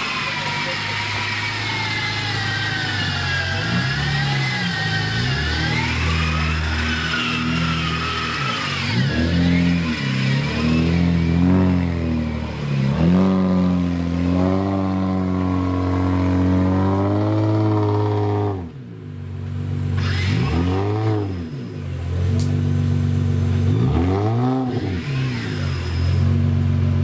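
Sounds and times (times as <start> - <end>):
off-road engine revving: 0.0 - 27.0.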